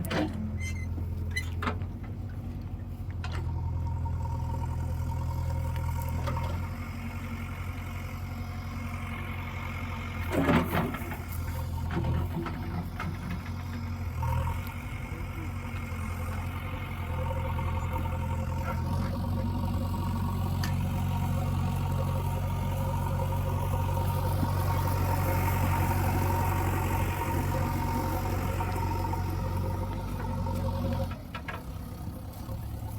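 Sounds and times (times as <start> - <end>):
diesel engine running at low revs: 0.0 - 32.9.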